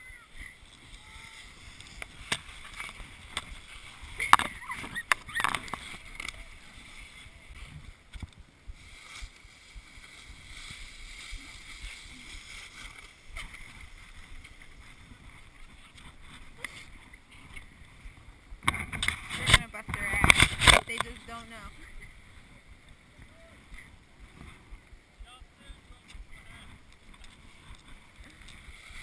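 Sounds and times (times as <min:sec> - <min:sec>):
sled scraping over packed snow: 0:00.0 - 0:24.9.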